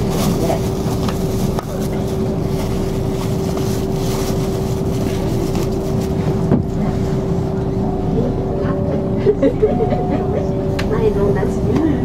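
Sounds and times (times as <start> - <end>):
railcar engine droning: 0.0 - 12.0.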